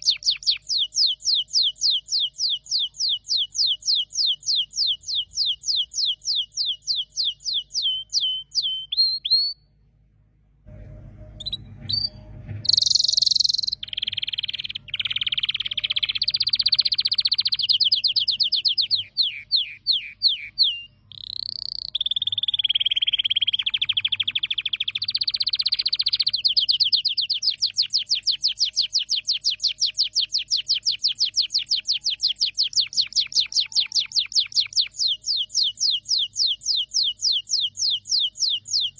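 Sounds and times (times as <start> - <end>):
canary singing: 0.0 - 9.8, 11.4 - 38.9.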